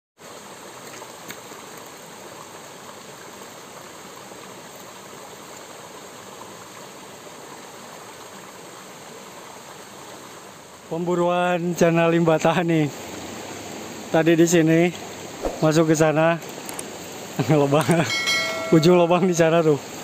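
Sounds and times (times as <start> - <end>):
stream rushing and splashing: 0.2 - 20.0.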